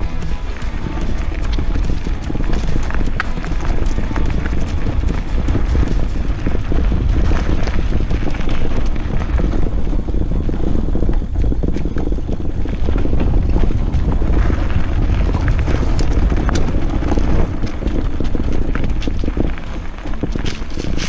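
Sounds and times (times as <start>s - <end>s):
bike ticks and rattles: 0.0s - 21.0s
tyres rumbling on gravel trail: 0.0s - 21.0s
wind buffeting microphone: 0.0s - 21.0s.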